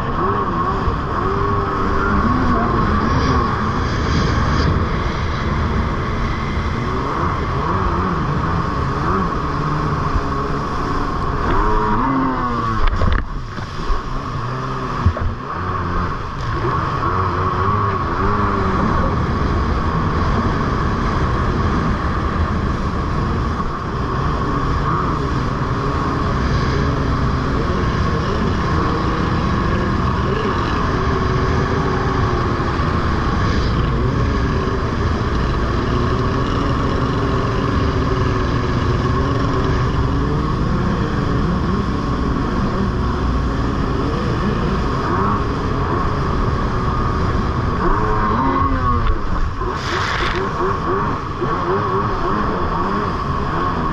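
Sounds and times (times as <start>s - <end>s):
jet ski engine running: 0.0s - 53.9s
rushing water: 0.0s - 53.9s.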